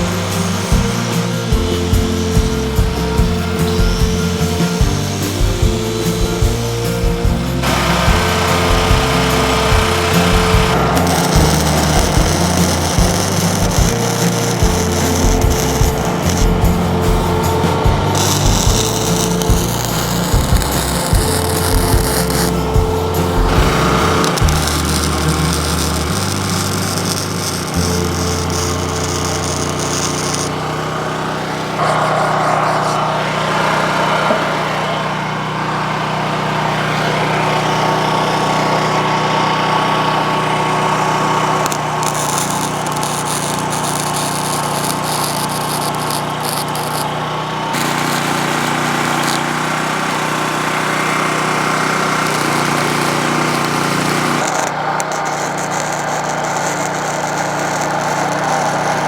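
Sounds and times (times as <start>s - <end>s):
arc welding hiss: 0.0s - 31.0s, 40.6s - 59.0s
generator droning: 0.0s - 59.0s.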